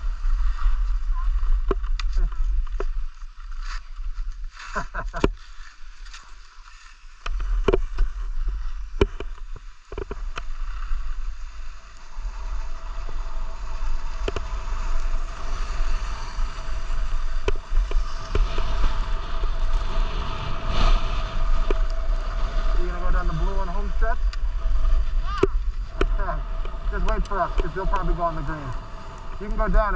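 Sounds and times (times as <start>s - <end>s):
wind rumble on microphone: 0.0s - 6.2s, 7.2s - 29.9s
skis scraping over snow: 0.0s - 29.9s.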